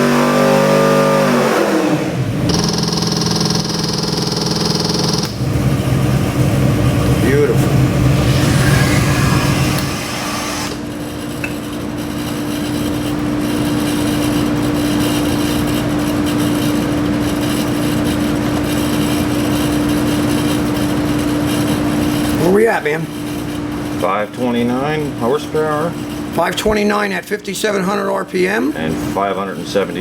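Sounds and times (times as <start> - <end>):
engine running on a dyno: 0.0 - 26.9.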